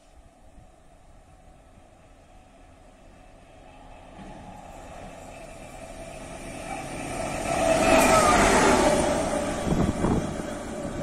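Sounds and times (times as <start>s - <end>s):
diesel locomotive passing: 0.0s - 11.0s.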